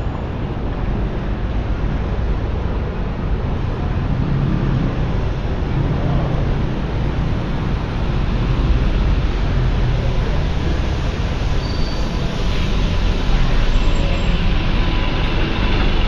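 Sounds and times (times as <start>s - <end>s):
tyres on wet road: 0.0s - 16.0s
vehicle engines running: 0.0s - 16.0s.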